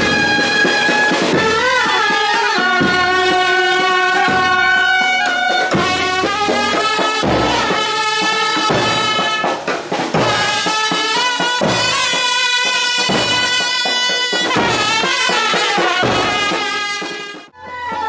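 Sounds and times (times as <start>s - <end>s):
melody over drums: 0.0s - 18.0s.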